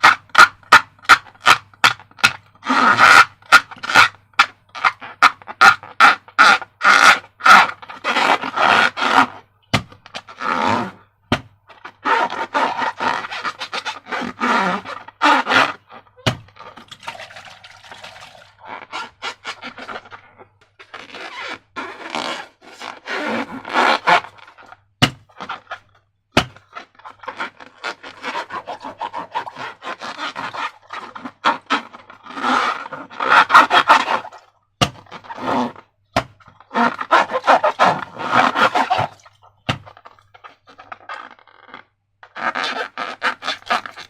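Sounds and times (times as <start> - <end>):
rubber balloons squeaking: 0.0 - 44.0.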